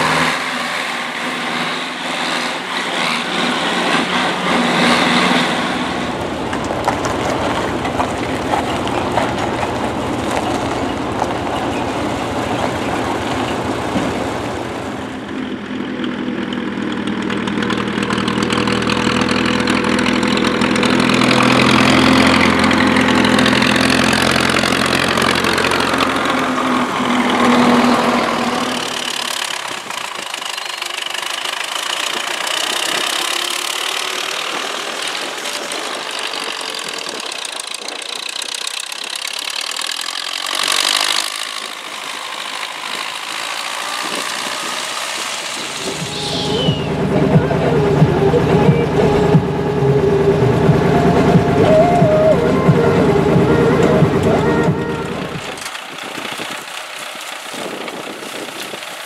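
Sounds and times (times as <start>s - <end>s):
tractor diesel engines running: 0.0s - 59.0s.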